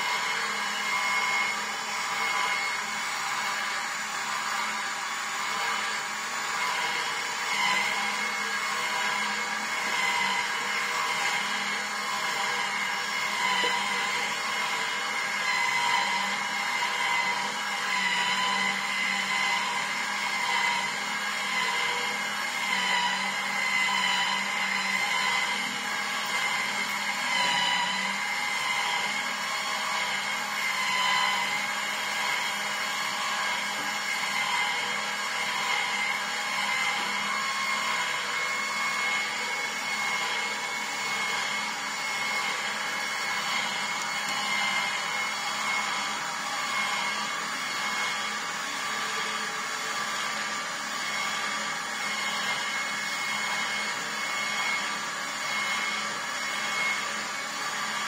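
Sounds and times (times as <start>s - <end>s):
juicer motor hum and whine: 0.0s - 58.0s.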